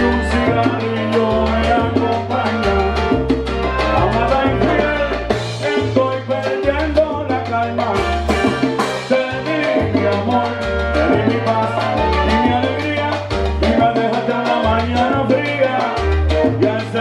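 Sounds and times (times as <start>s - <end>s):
bass line: 0.0s - 17.0s
congas: 0.0s - 17.0s
salsa band playing: 0.0s - 17.0s.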